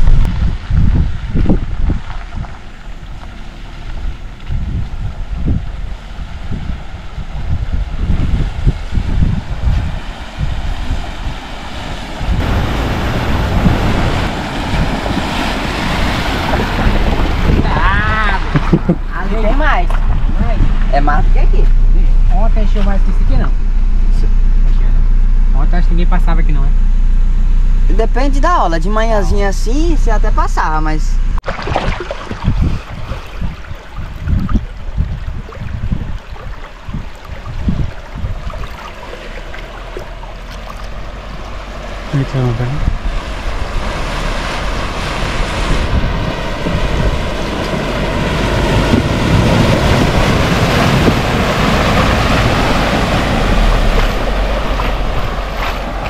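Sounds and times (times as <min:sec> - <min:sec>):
rushing water and rain: 0:00.0 - 0:21.6, 0:31.4 - 0:56.0
car engine and tyre rumble: 0:00.0 - 0:31.4, 0:32.2 - 0:56.0.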